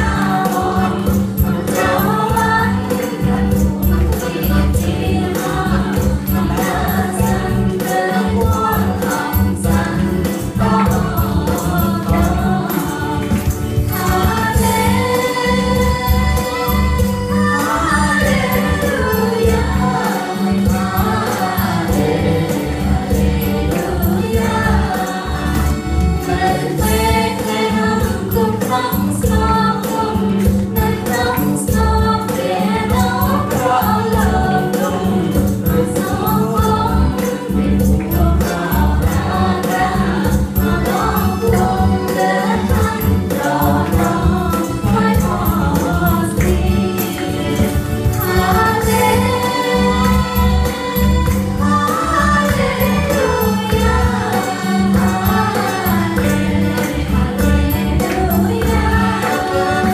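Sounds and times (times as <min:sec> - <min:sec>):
instrumental music with strong bass: 0:00.0 - 0:59.9
voices singing along: 0:00.0 - 0:59.9.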